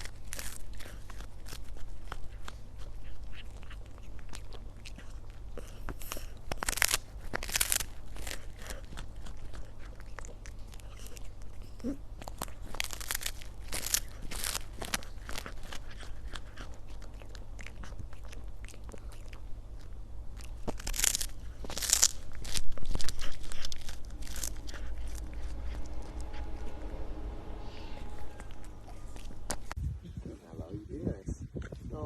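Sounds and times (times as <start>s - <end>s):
crunchy chewing: 0.0s - 26.6s.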